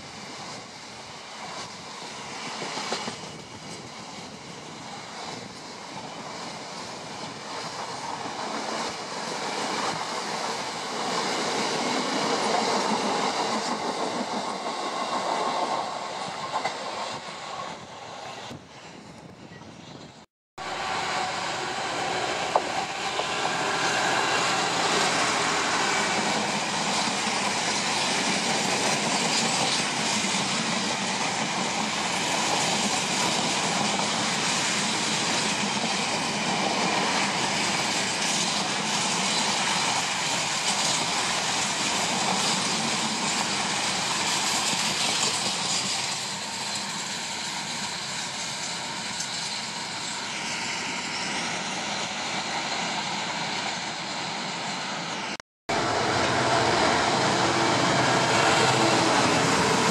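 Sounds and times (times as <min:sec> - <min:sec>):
diesel locomotive engine: 0:00.0 - 0:59.9
train wheels on rails: 0:00.0 - 0:59.9.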